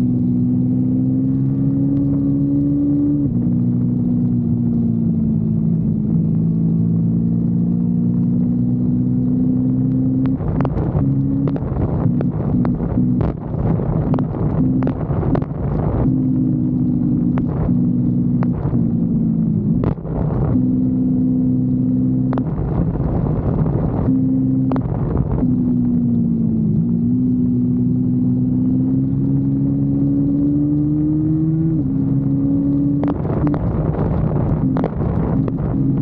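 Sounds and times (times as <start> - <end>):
motorcycle engine running: 0.0 - 36.0
wind noise: 0.0 - 36.0.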